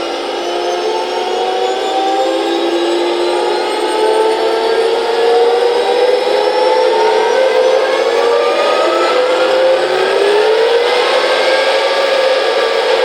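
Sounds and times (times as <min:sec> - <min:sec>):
simulated turbine engine whine: 0:00.0 - 0:13.0.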